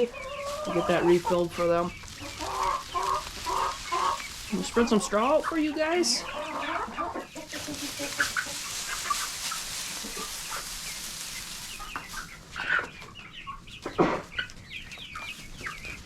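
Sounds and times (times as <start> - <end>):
rustling hiss: 0.0 - 13.0
hens clucking: 0.0 - 16.0.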